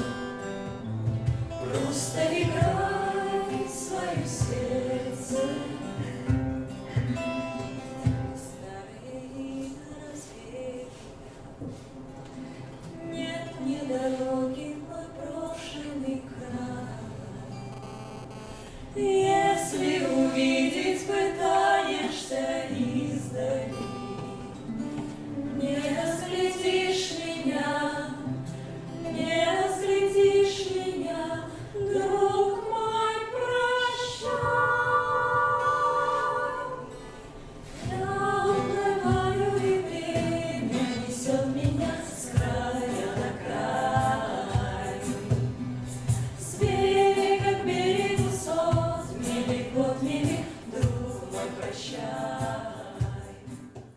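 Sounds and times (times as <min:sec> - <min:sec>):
group of voices singing: 0:01.5 - 0:07.2, 0:13.1 - 0:17.4, 0:18.9 - 0:24.7, 0:25.4 - 0:53.9.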